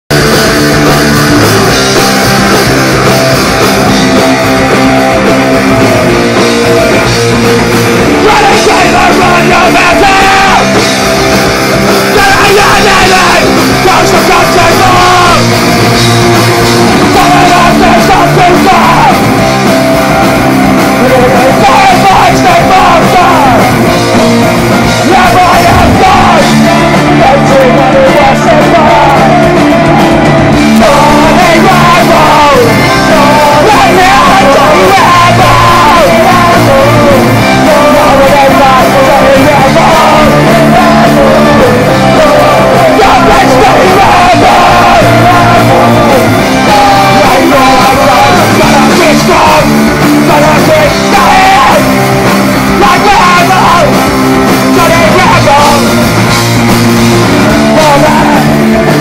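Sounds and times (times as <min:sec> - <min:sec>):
drum kit: 0:00.1 - 0:59.0
electric guitars: 0:00.1 - 0:59.0
vocalist shouting and singing: 0:00.3 - 0:59.0.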